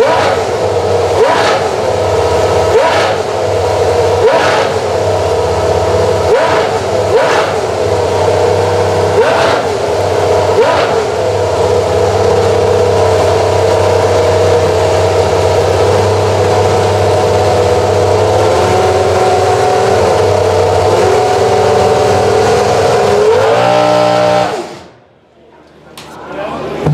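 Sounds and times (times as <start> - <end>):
racing car engine revving and idling: 0.0 - 26.9.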